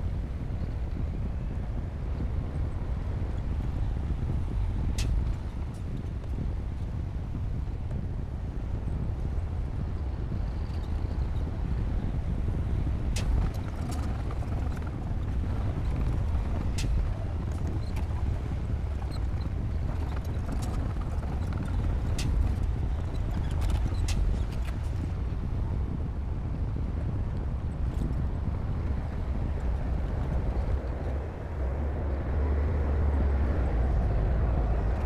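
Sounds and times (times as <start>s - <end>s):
bulldozer diesel engine rumble: 0.0s - 35.0s.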